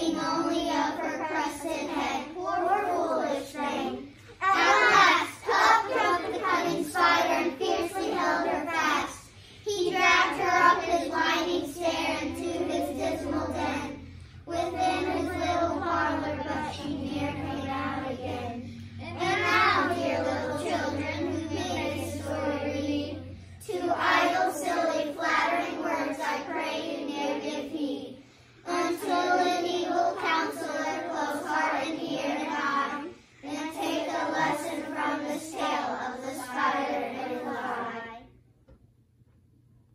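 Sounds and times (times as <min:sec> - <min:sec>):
children reciting in unison: 0:00.0 - 0:38.3.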